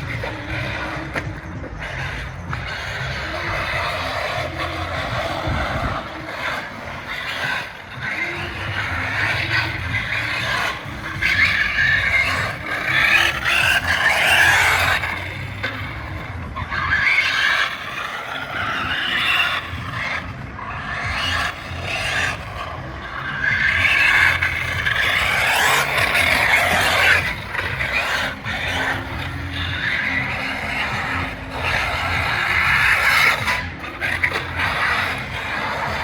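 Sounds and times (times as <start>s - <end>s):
electric motor whining: 0.0s - 36.0s
tyres scraping and skidding: 0.0s - 36.0s.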